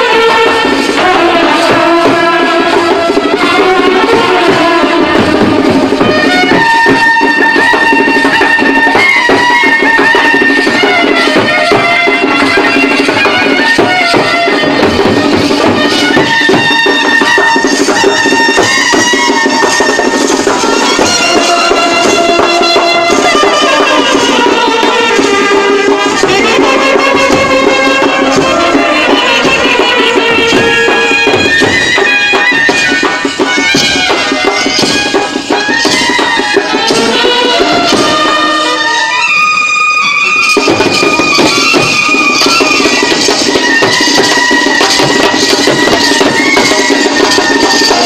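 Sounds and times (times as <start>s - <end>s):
horn melody: 0.0s - 48.0s
steady drumming: 0.0s - 48.0s.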